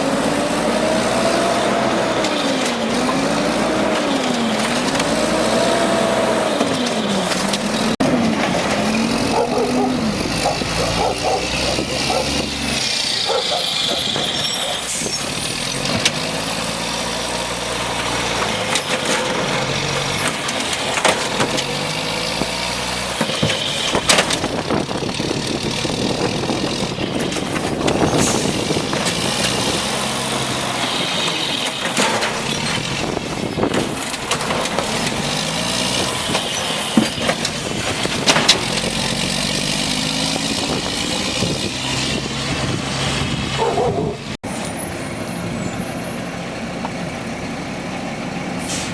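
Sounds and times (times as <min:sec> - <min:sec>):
hydraulics running: 0:00.0 - 0:45.2
garbage truck engine revving: 0:00.0 - 0:48.9.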